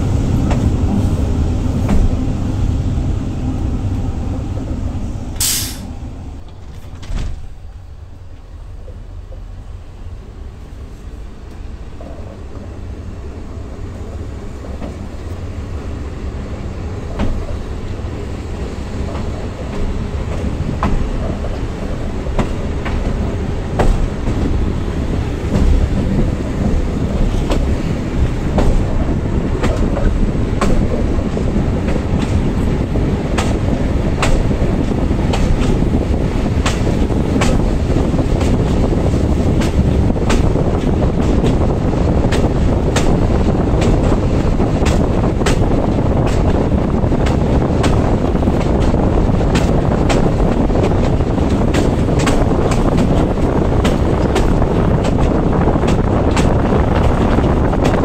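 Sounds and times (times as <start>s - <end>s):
diesel railcar engine rumble: 0.0s - 58.0s
train wheels clacking over rail joints: 11.4s - 58.0s.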